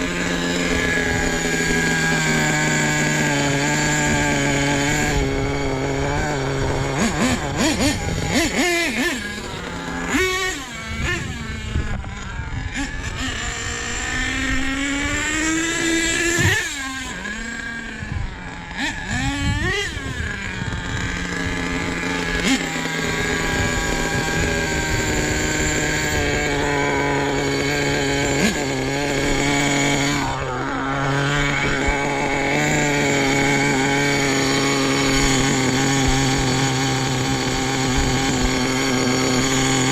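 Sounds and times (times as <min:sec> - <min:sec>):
rc truck engines revving: 0:00.0 - 0:39.9.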